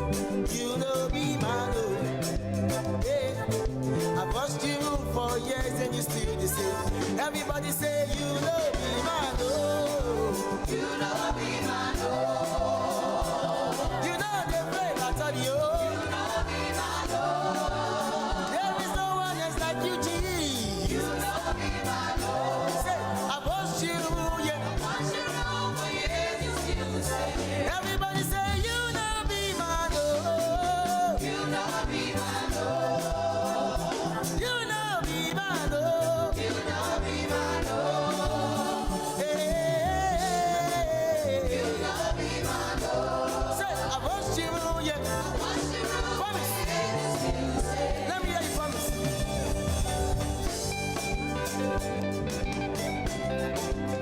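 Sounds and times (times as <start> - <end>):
gospel singing: 0.0 - 54.0
instrumental backing with steady beat: 0.0 - 54.0.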